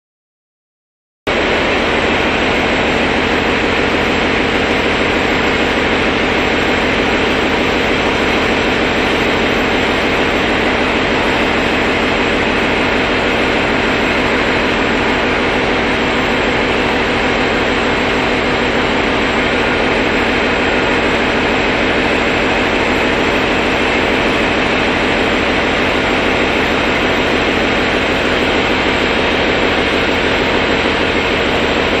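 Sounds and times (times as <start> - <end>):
train diesel engine droning: 1.3 - 32.0.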